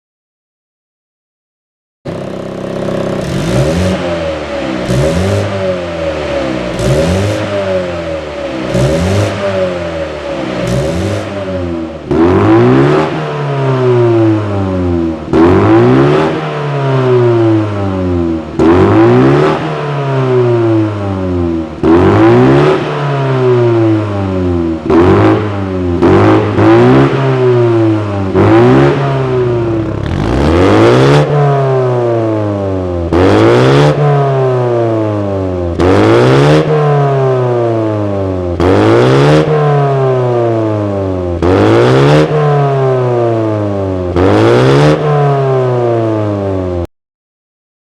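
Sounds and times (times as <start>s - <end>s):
car exhaust revving: 2.1s - 46.5s.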